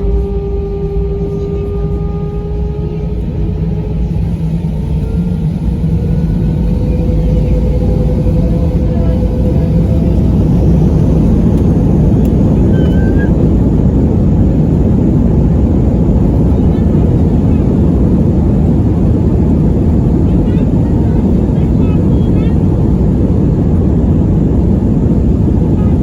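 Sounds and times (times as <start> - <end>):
jet engines spooling up: 0.0 - 26.0.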